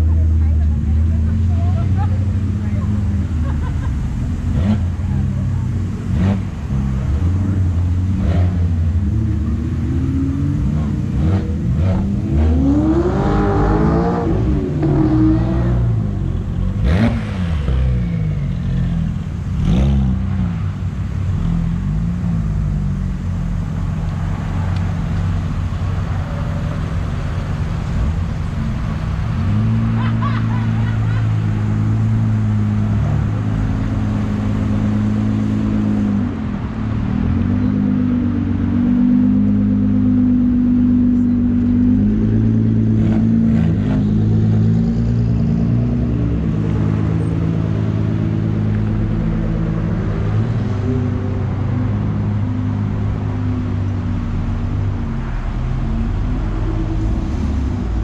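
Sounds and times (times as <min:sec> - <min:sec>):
sports car engines passing: 0:00.0 - 0:58.0.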